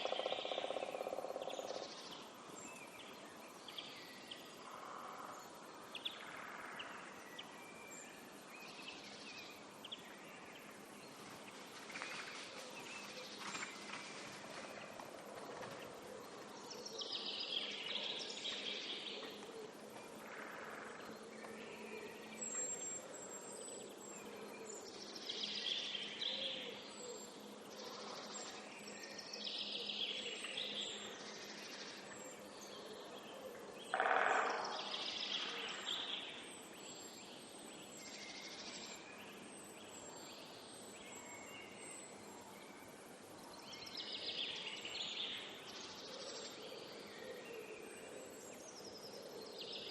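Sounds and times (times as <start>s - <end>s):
background hiss: 0.0s - 49.9s.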